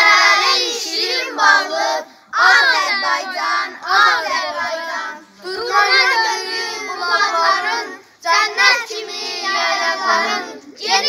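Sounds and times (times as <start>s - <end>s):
children singing unaccompanied: 0.0s - 11.0s.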